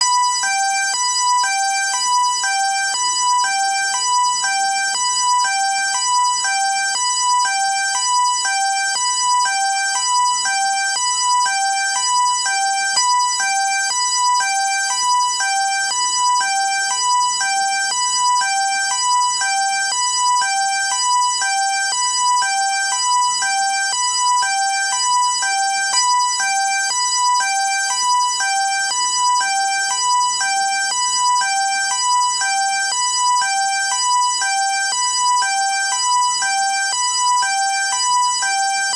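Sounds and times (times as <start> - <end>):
high-low alarm beeps: 0.0 - 38.9.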